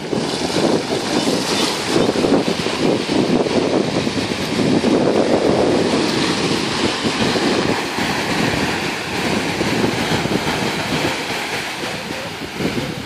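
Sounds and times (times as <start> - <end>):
small waves breaking on shore: 0.0 - 13.0
wind buffeting microphone: 0.0 - 13.0.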